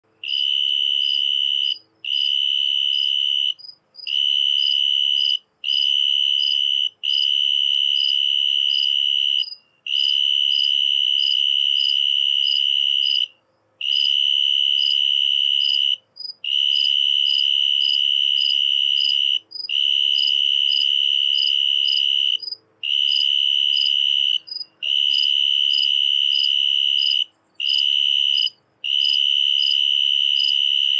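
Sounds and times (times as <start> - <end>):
cricket chirping: 0.1 - 30.9.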